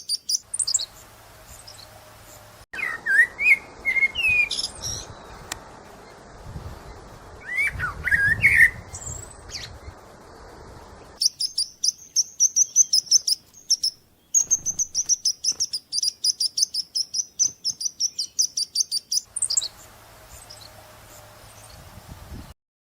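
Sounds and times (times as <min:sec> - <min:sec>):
songbird singing: 0:00.0 - 0:22.6.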